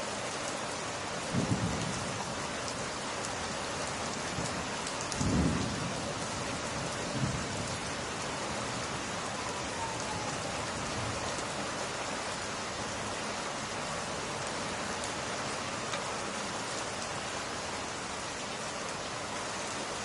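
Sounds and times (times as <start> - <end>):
rain falling on glass: 0.0 - 20.0.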